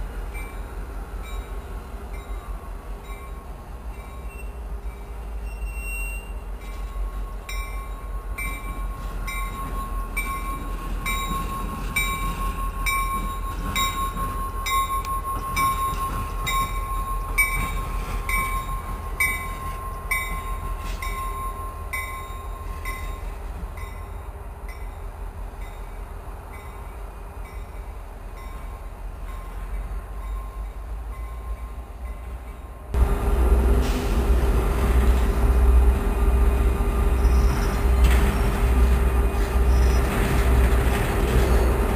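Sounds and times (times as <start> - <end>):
close locomotive engine hum: 0.0 - 41.9
locomotive engine rumble: 0.0 - 41.9.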